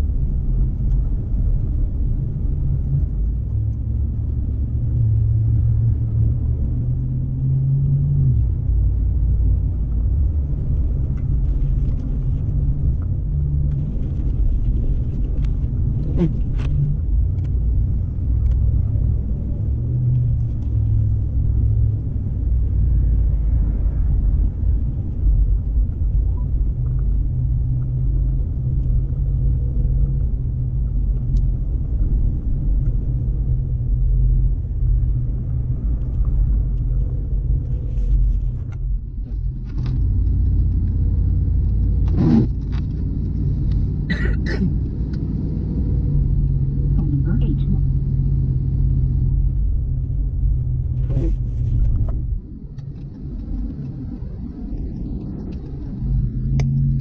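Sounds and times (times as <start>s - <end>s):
car driving on highway rumble: 0.0s - 57.0s.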